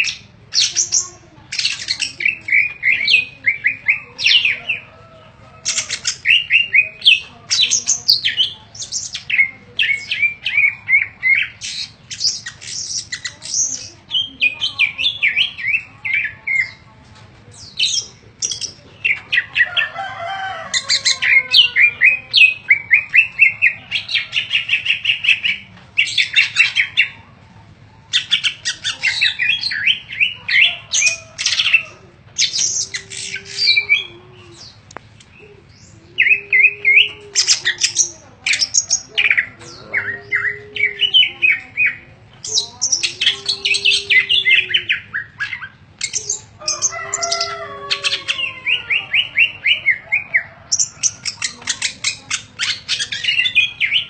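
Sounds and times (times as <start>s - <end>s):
bird singing chirps and trills: 0.0s - 27.2s, 28.0s - 54.0s.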